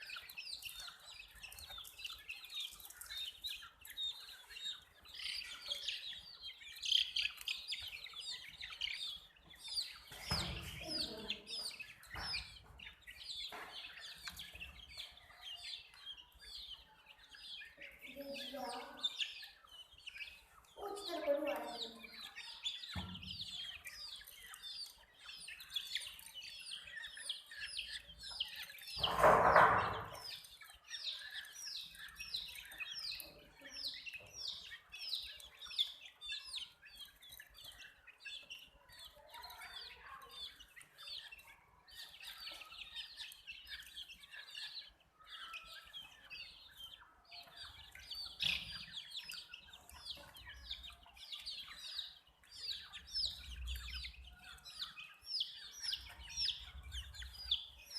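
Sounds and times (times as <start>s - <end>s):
chicks chirping: 0.0s - 57.9s.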